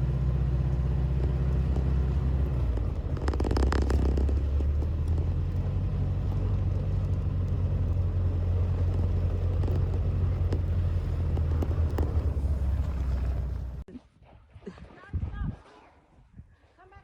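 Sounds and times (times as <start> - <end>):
vehicle engine and road rumble: 0.0 - 13.9.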